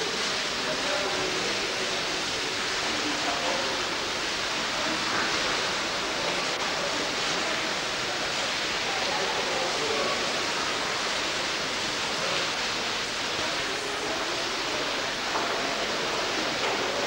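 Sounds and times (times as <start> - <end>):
murmur of distant voices: 0.0 - 17.0.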